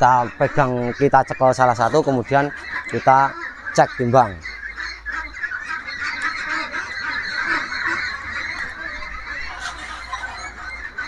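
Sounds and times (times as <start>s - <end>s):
flock of ducks quacking: 0.0s - 11.0s.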